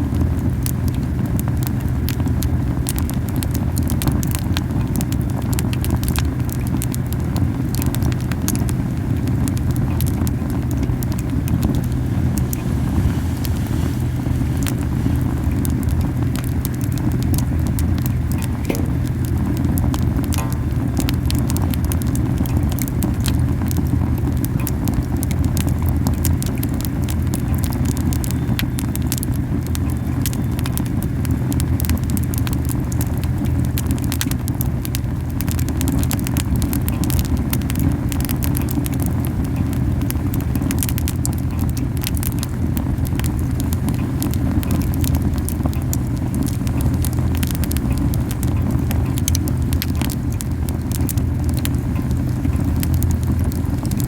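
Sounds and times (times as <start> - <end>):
campfire crackling and popping: 0.0 - 54.0
flames puffing: 0.0 - 54.0.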